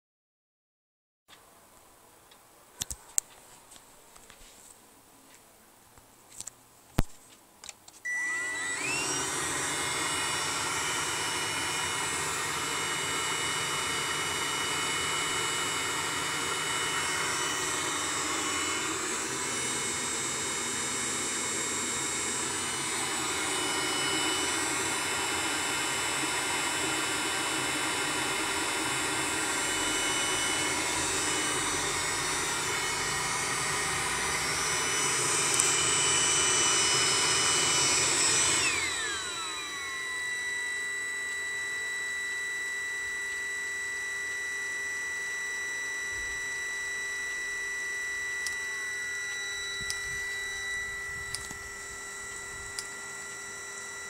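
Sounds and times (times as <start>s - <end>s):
heater motor whirring: 8.1s - 54.0s.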